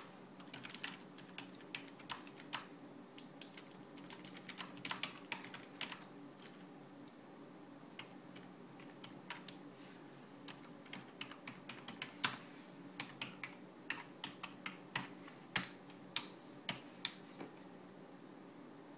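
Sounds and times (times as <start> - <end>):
faint steady hum: 0.0 - 18.9.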